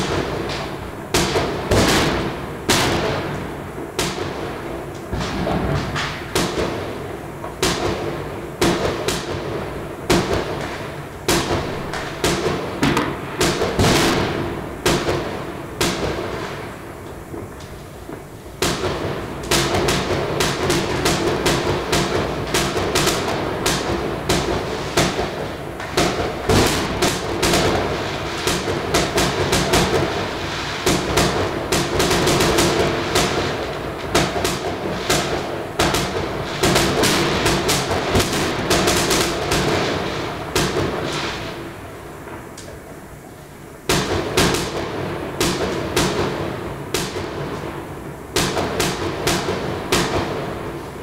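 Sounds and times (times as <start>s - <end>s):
fireworks bangs echoing: 0.0s - 43.1s, 43.8s - 51.0s.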